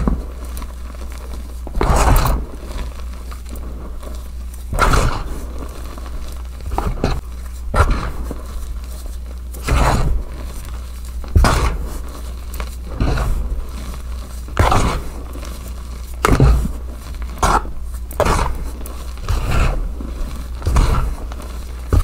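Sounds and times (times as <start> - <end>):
chalk crunching in hands: 0.0 - 22.0.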